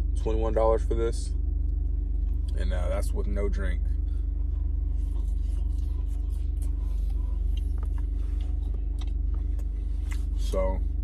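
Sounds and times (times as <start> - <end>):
car engine idling: 0.0 - 11.0
steady hum: 0.0 - 11.0.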